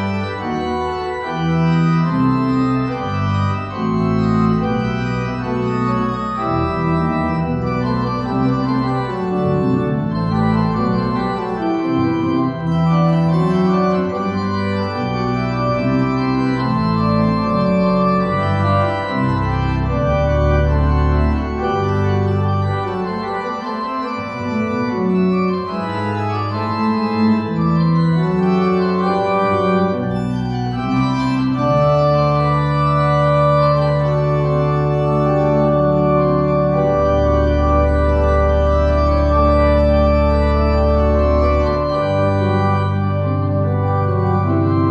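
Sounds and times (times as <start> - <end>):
organ playing chords: 0.0 - 44.9.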